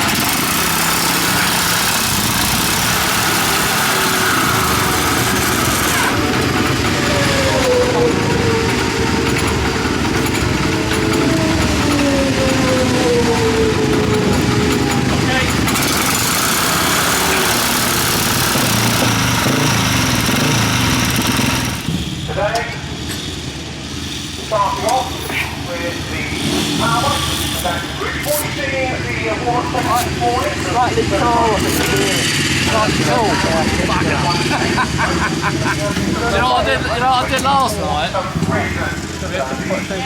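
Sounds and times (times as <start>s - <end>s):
racing motorcycle engines running hard: 0.0s - 40.0s.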